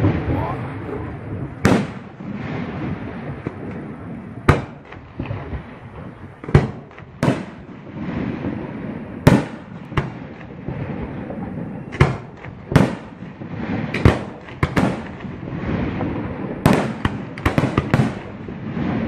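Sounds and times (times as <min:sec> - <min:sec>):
fireworks bangs: 0:00.0 - 0:19.0
fireworks crackling and rumble: 0:00.0 - 0:19.0.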